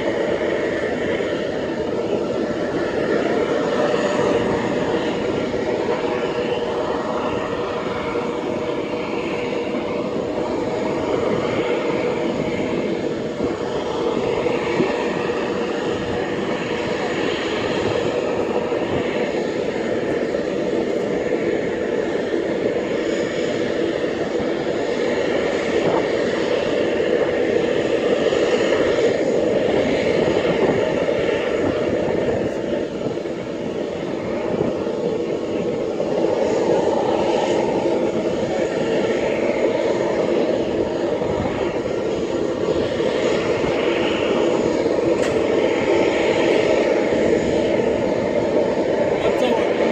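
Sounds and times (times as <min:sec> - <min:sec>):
aircraft engines humming: 0:00.0 - 0:49.9.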